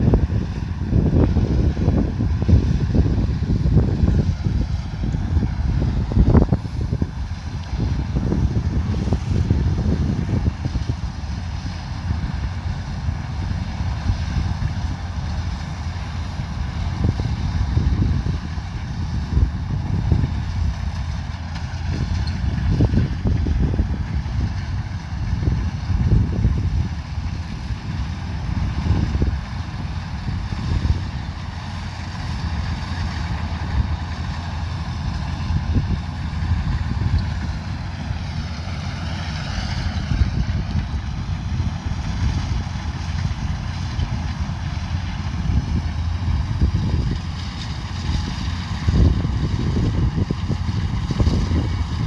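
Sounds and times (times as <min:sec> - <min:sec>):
combine harvester rumbling: 0:00.0 - 0:52.0.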